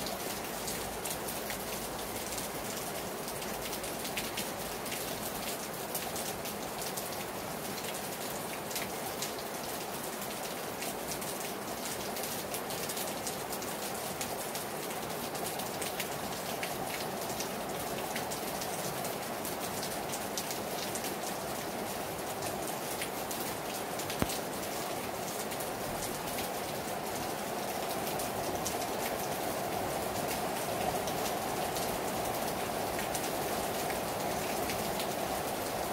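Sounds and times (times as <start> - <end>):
raindrops ticking on a surface: 0.0 - 35.9.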